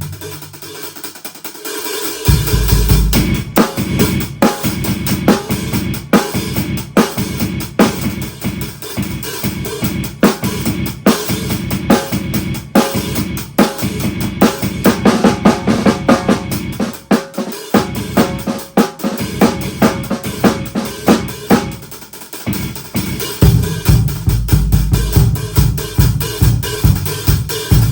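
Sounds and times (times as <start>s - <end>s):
drum kit playing: 0.0s - 27.9s.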